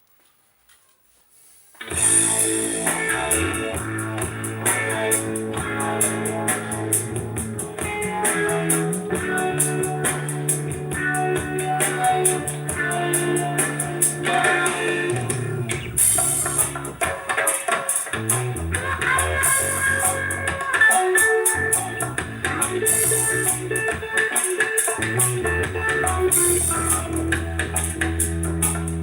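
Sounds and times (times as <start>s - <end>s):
band playing instrumental: 1.8s - 29.0s.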